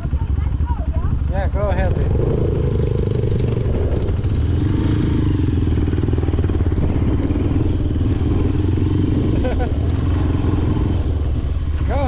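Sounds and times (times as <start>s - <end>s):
off-road motorcycle engine: 0.0s - 12.0s.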